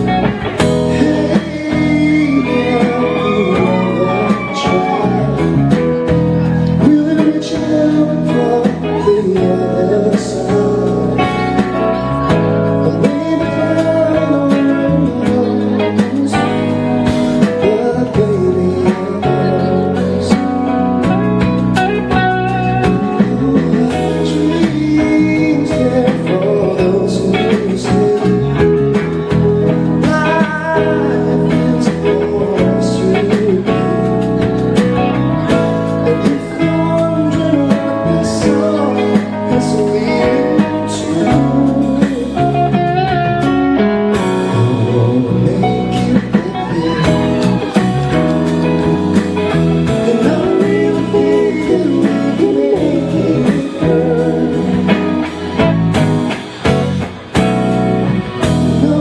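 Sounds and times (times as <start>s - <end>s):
man singing: 0.0s - 57.4s, 58.2s - 59.0s
soft rock band playing: 0.0s - 59.0s.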